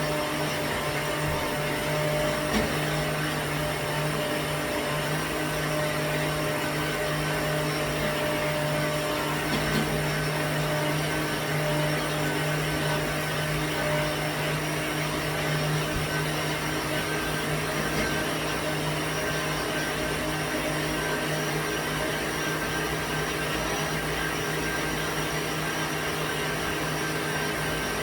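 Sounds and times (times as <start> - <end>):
electric blender motor running: 0.0 - 28.0.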